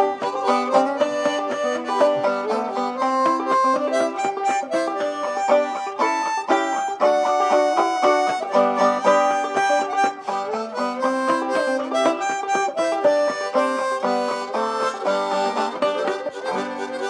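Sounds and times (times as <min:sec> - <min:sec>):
banjo picking melody: 0:00.0 - 0:17.0.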